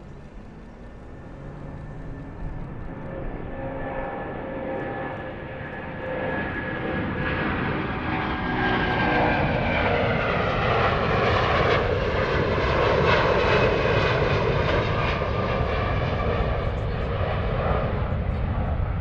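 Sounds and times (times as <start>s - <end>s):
jet airliner passing low: 0.0s - 19.0s.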